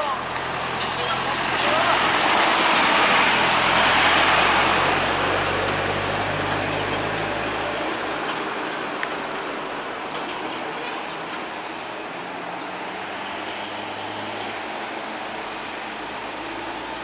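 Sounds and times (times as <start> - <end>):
diesel bus engine pulling uphill: 0.0 - 17.0
road rumble: 0.0 - 17.0.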